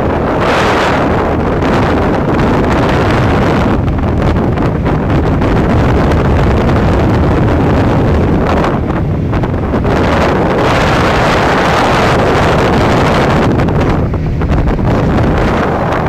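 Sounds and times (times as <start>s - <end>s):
boat running noise: 0.0s - 16.0s
wind buffeting microphone: 0.0s - 16.0s.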